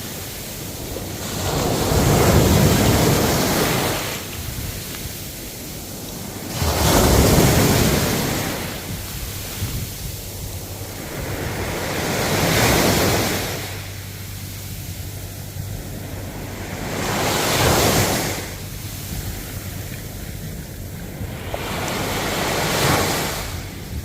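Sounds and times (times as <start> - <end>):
ocean waves breaking: 0.0 - 24.0.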